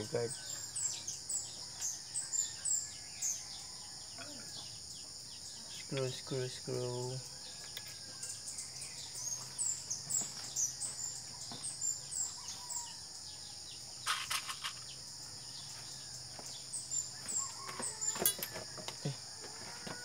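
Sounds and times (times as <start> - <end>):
bird chirping: 0.0 - 18.4
insects droning: 0.0 - 20.0.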